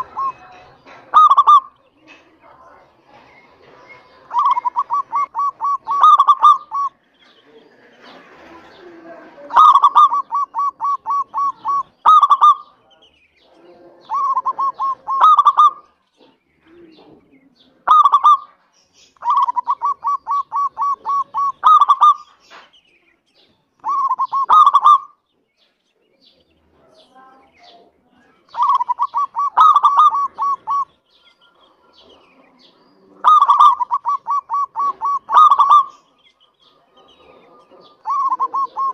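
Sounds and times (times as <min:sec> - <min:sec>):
dove cooing: 0:00.0 - 0:02.3, 0:03.6 - 0:12.8, 0:13.4 - 0:18.6, 0:19.2 - 0:22.4, 0:23.8 - 0:25.2, 0:28.3 - 0:38.9.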